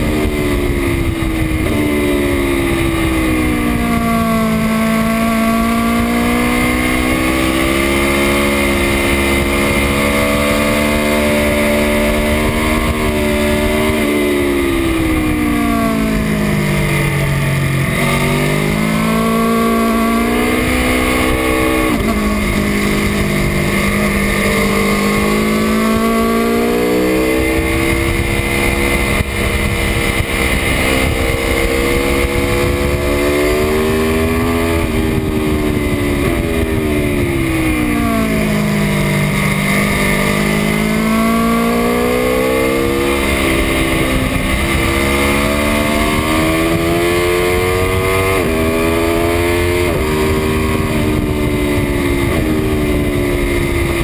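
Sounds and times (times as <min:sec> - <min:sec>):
motorcycle engine at speed: 0:00.0 - 0:54.0
wind rushing over microphone: 0:00.0 - 0:54.0.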